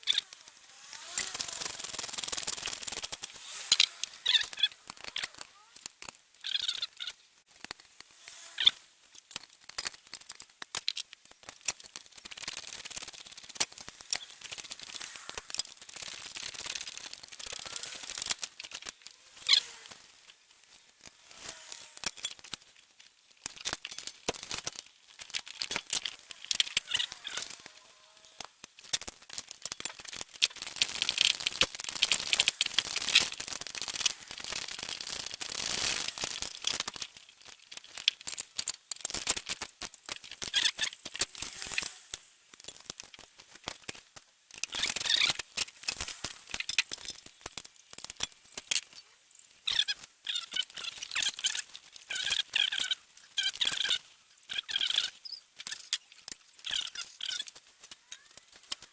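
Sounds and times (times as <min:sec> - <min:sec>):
hand tools clicking and scraping: 0:00.0 - 0:58.9.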